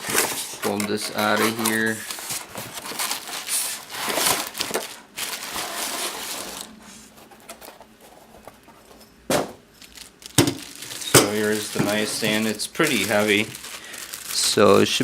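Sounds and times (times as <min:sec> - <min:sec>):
plastic packaging crinkling: 0:00.0 - 0:09.0, 0:09.6 - 0:15.0.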